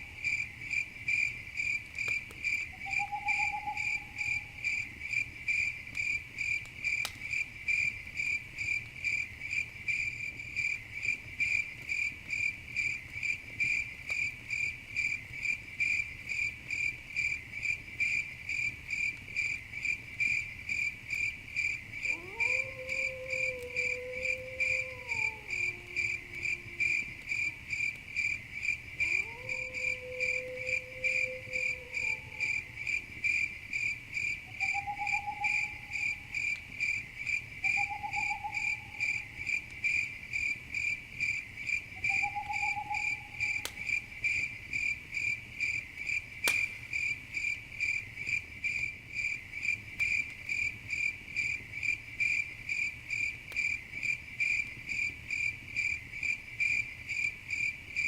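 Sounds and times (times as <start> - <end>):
campfire crackles: 0.0 - 58.0
crickets chirping: 0.0 - 58.0.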